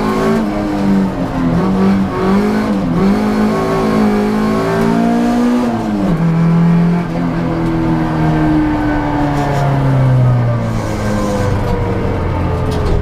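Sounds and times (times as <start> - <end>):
car engine running hard: 0.0 - 13.0.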